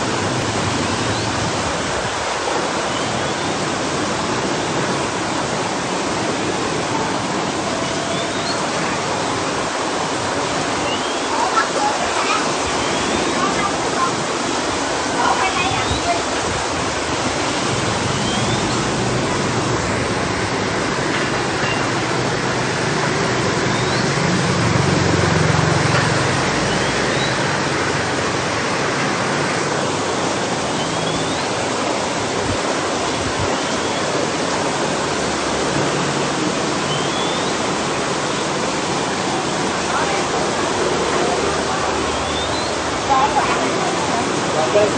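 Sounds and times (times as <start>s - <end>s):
aquarium water rushing and splashing: 0.0s - 44.9s.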